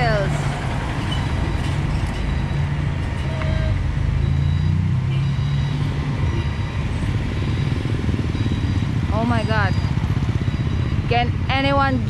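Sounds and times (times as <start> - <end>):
traffic noise: 0.0 - 12.0
vehicle engines humming: 0.0 - 12.0.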